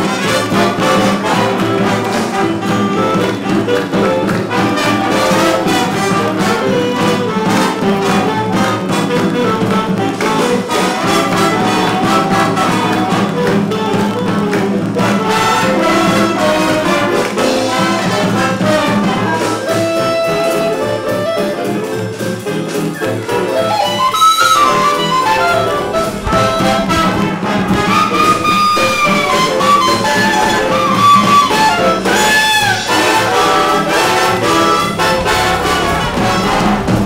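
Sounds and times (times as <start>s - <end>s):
brass music: 0.0s - 37.0s.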